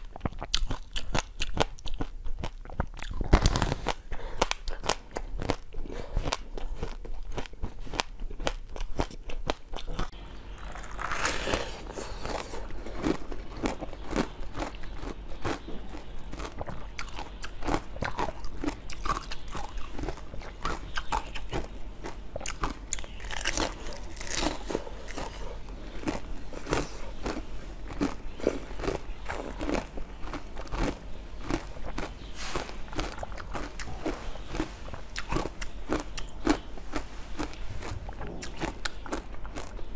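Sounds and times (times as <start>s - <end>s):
chewing crunchy seeds: 0.0s - 39.9s.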